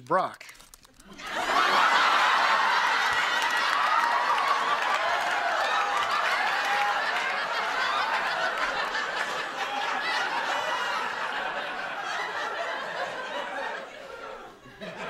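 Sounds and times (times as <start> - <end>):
audience laughing: 1.1 - 15.0.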